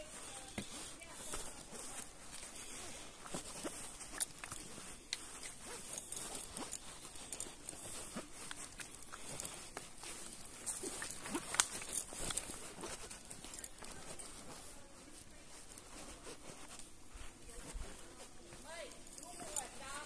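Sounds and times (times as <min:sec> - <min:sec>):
footsteps on a trail: 0:00.0 - 0:20.0.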